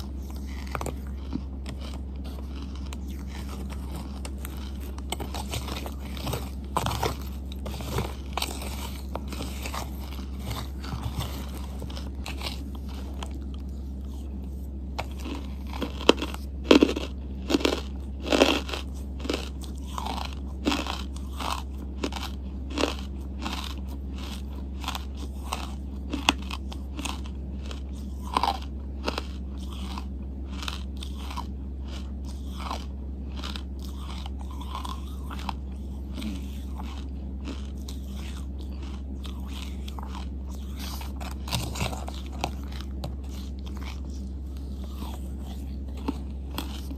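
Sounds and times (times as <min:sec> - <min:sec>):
person crunching charcoal: 0:00.0 - 0:46.9
steady low hum: 0:00.0 - 0:46.9.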